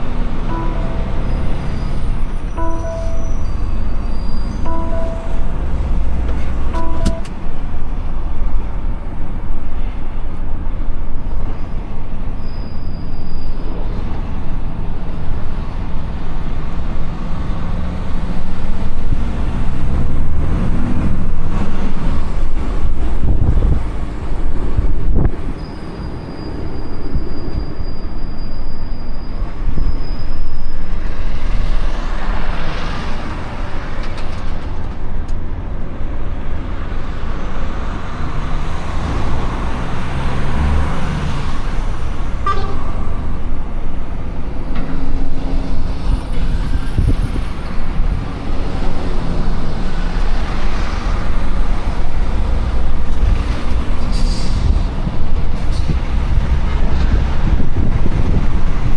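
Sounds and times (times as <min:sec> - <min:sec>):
heavy vehicle rumbling: 0:00.0 - 0:58.9.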